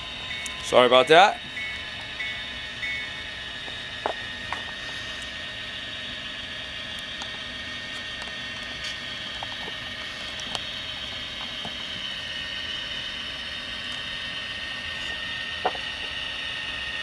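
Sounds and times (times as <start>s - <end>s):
constant high tone: 0.0s - 17.0s
diesel engine sound from small speaker: 0.0s - 17.0s.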